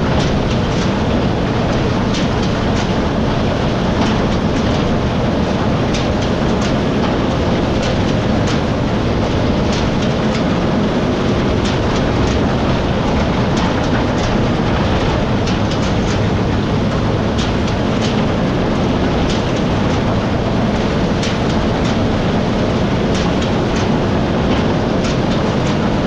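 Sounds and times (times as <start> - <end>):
farm machinery running: 0.0 - 26.0
sharp clicks and rattles: 0.0 - 26.0.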